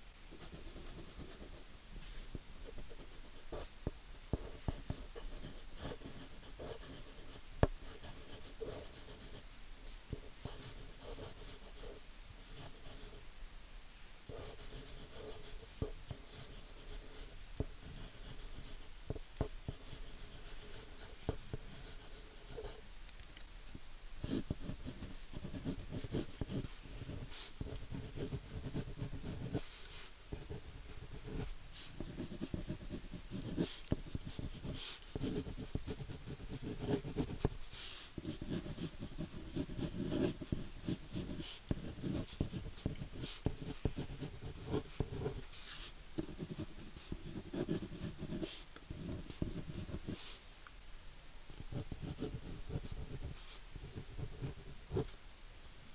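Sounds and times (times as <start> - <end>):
pen scratching and tapping: 2.3 - 9.4, 10.1 - 13.1, 14.3 - 22.8, 24.2 - 37.6, 38.2 - 50.3, 51.5 - 55.1.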